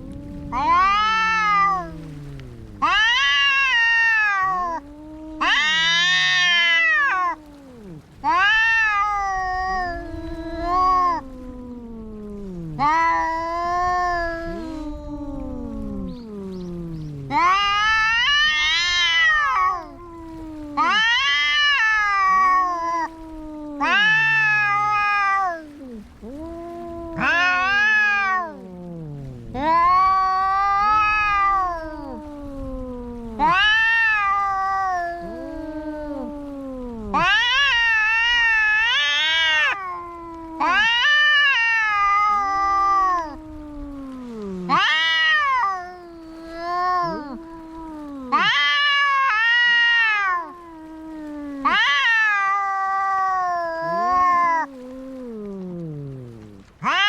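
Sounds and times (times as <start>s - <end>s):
cats yowling in a fight: 0.0s - 57.0s
low drawn-out cat wails: 0.0s - 57.0s.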